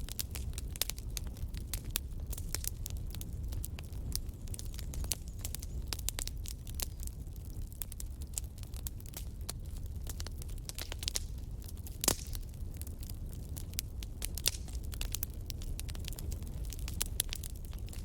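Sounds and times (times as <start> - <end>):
bonfire crackling and popping: 0.0 - 18.0
low rumble of flames: 0.0 - 18.0.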